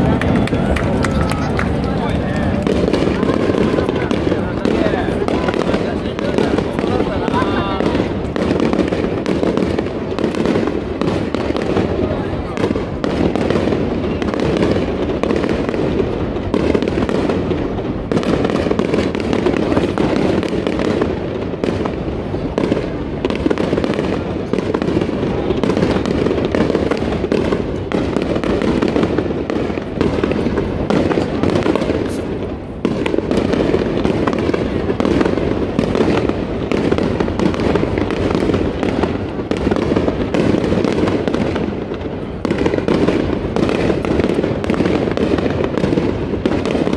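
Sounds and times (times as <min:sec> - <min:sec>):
firework shells bursting: 0:00.0 - 0:46.9.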